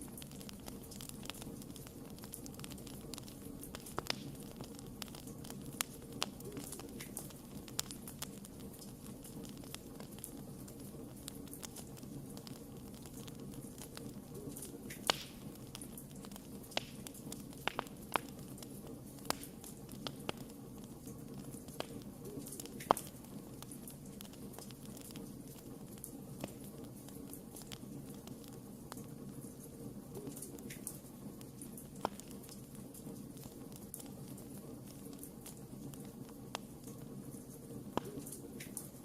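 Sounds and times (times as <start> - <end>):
fire popping and crackling: 0.0 - 39.0
wood fire burning: 0.0 - 39.0.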